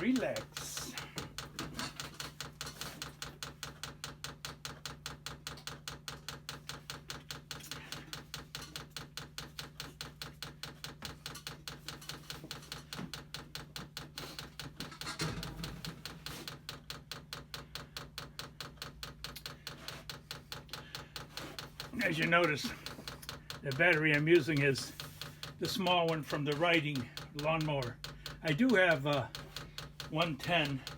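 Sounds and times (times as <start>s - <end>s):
fuel pump ticking rapidly: 0.0s - 30.9s.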